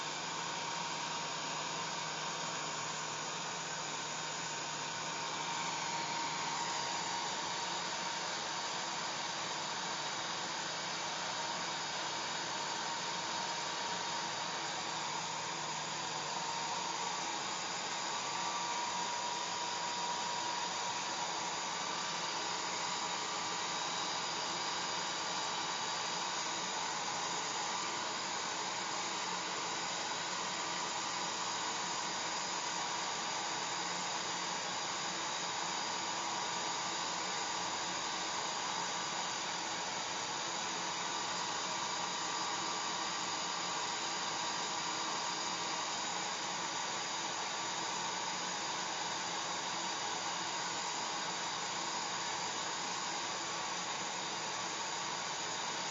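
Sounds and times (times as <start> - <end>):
hair dryer blowing air: 0.0 - 55.9.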